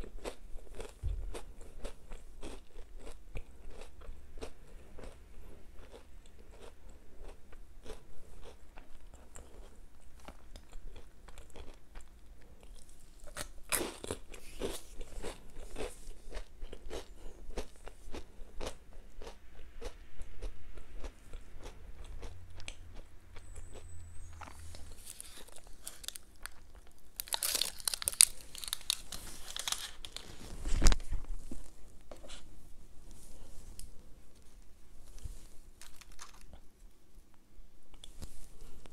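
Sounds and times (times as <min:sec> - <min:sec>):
chewing and crunching wafer: 0:00.0 - 0:30.9, 0:35.8 - 0:36.7.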